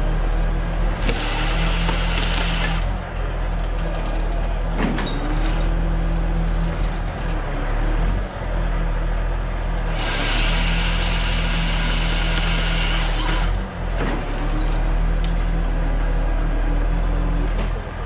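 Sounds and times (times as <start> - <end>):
heavy crane engine running: 0.0 - 18.0.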